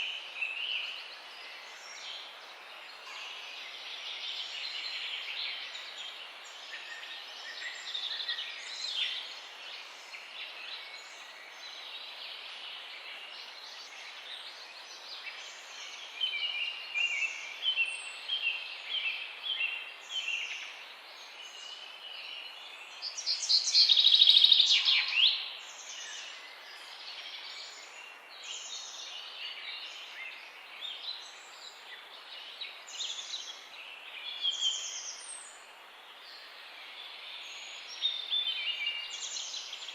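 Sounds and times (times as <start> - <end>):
background hiss: 0.0 - 39.9
songbirds singing and calling: 0.0 - 39.9.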